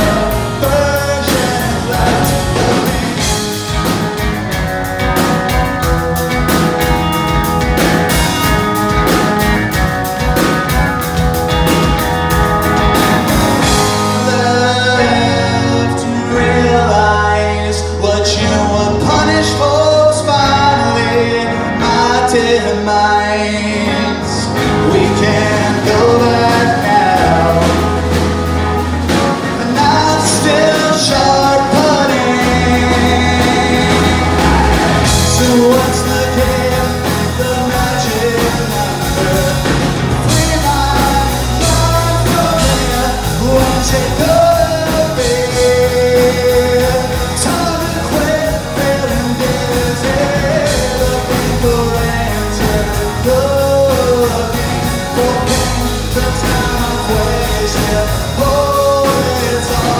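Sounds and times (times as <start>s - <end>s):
live rock band playing: 0.0s - 59.9s
man singing lead: 0.0s - 59.9s.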